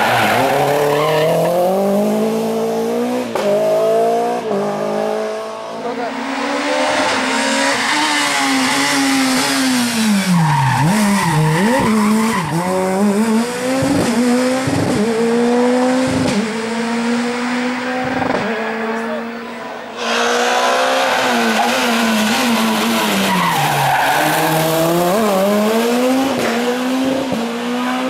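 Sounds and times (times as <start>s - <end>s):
rally car engine at high revs: 0.0s - 28.0s.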